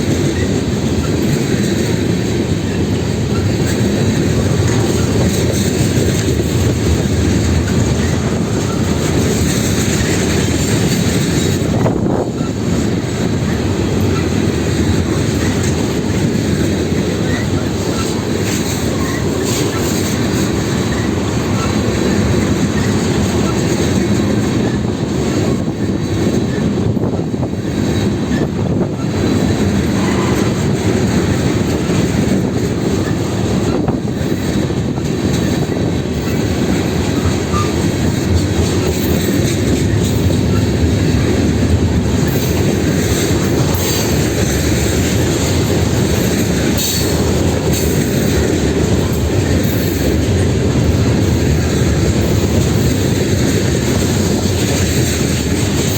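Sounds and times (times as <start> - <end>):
train wheels rumbling on track: 0.0 - 55.9.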